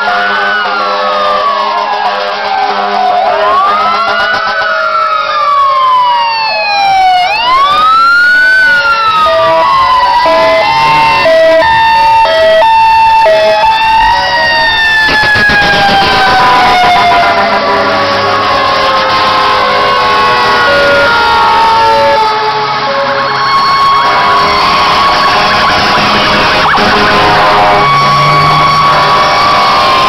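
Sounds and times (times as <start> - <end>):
fire engine engine noise: 0.0 - 30.0
two-tone hi-lo siren: 0.0 - 30.0
wailing sirens: 0.0 - 30.0.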